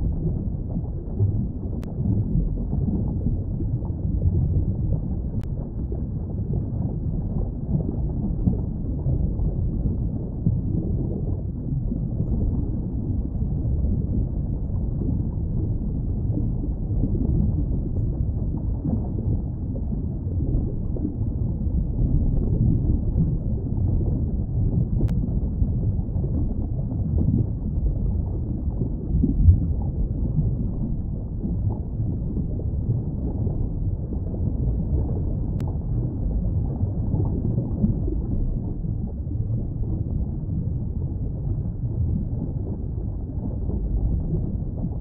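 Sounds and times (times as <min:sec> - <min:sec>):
faint bubbling: 0:00.0 - 0:45.0
underwater low rumble: 0:00.0 - 0:45.0.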